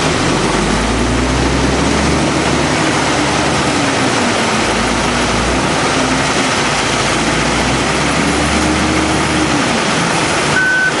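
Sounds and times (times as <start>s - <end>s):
wheel loader diesel engine: 0.0s - 11.0s.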